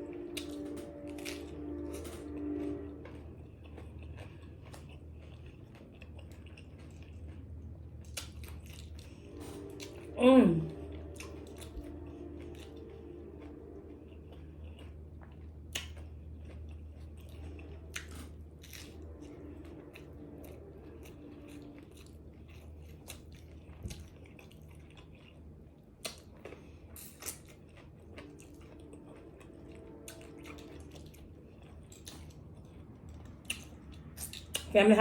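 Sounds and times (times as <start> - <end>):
close chewing of food: 0.0 - 35.0.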